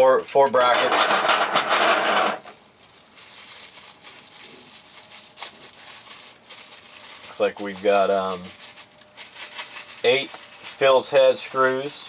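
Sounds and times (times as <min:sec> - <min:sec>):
rustling bag and parts: 0:00.8 - 0:12.0.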